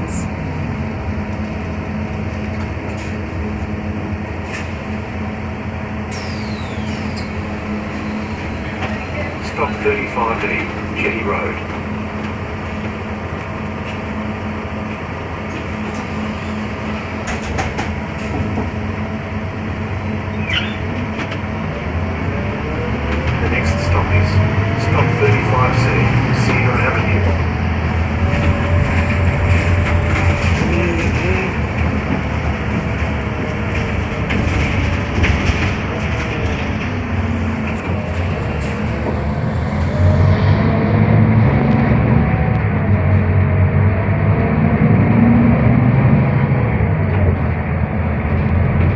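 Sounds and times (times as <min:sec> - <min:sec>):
bus drivetrain hum: 0:00.0 - 0:48.9
road noise: 0:00.0 - 0:48.9.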